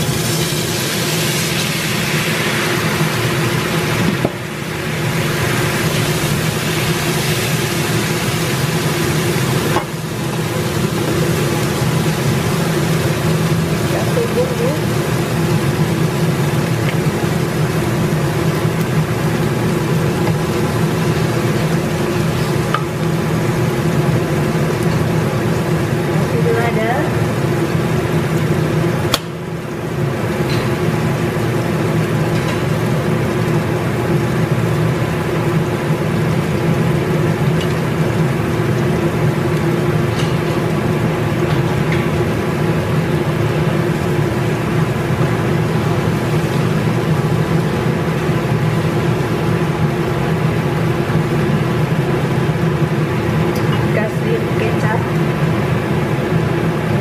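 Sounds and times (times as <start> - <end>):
exhaust fan humming: 0.0 - 57.0.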